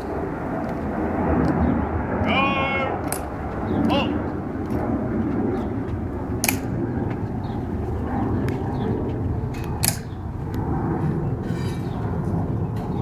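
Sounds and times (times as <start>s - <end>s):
steady outdoor rumble: 0.0s - 13.0s.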